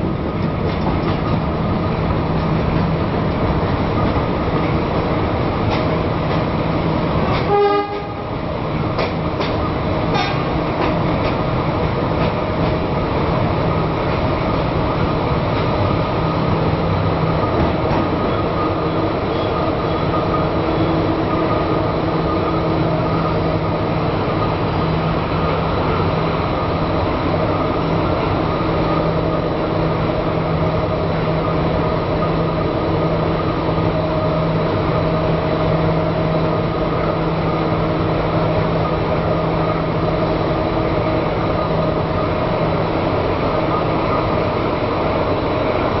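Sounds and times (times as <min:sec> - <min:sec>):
locomotive engine drone: 0:00.0 - 0:46.0
rail running noise: 0:00.0 - 0:46.0.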